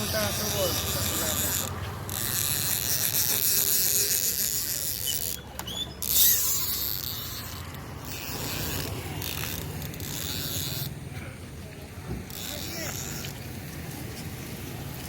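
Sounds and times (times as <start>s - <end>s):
fishing reel clicking and whirring: 0.0s - 11.0s, 12.3s - 13.6s.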